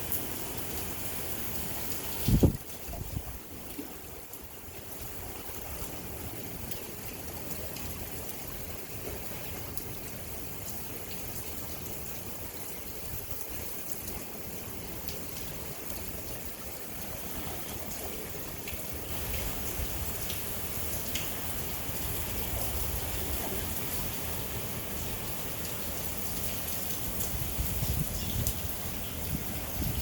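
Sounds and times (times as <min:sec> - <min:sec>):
rain falling on water: 0:00.0 - 0:30.0.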